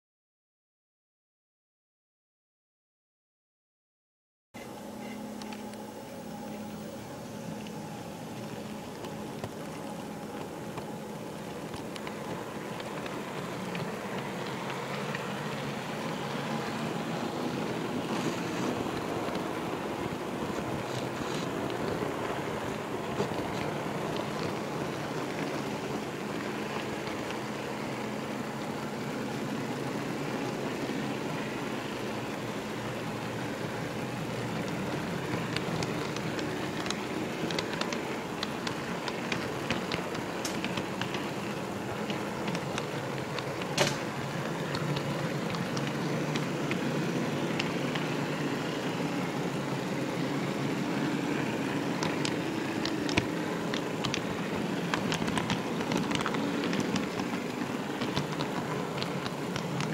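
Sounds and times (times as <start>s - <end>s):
model train wheels rumbling: 4.9s - 59.9s
wheels clicking over rail joints: 6.4s - 59.9s.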